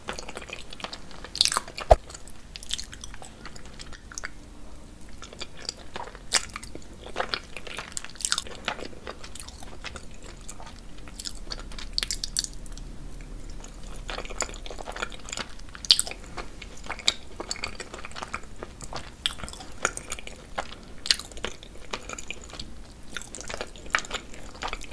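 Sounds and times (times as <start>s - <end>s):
chewing food: 0.0s - 4.4s, 5.0s - 24.9s.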